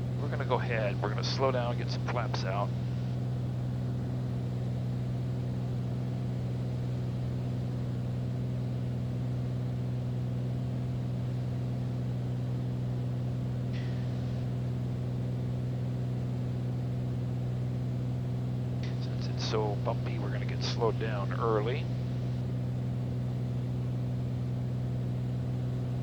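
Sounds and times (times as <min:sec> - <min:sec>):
plane engine and propeller droning: 0:00.0 - 0:26.0.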